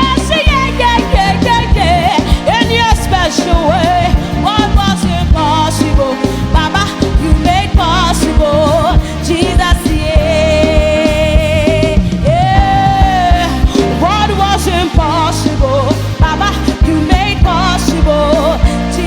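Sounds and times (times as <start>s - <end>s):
band with steady beat: 0.0s - 19.0s
solo voice singing: 0.0s - 19.0s.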